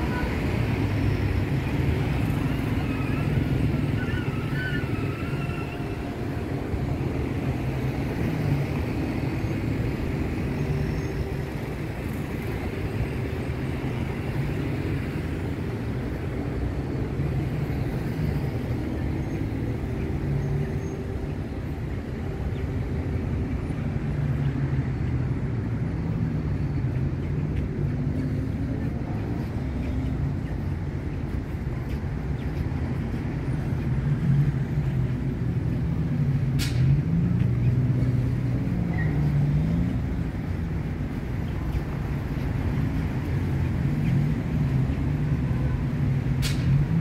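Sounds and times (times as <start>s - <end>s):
cars driving past: 0.0s - 47.0s.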